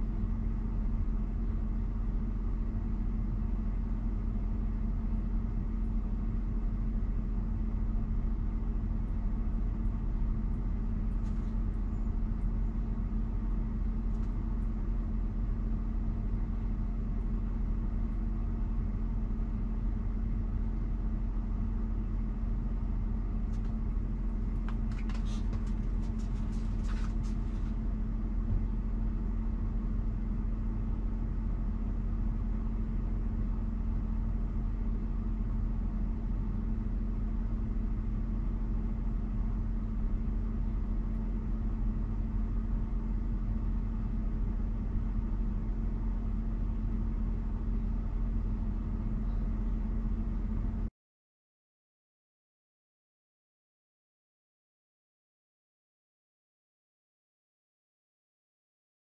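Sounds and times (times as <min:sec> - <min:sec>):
climate control fan hum: 0:00.0 - 0:50.9.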